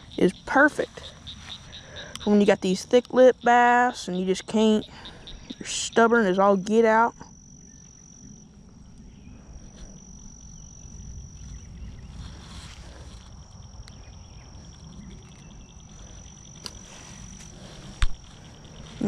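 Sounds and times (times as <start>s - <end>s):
insect trilling: 0.0s - 19.0s.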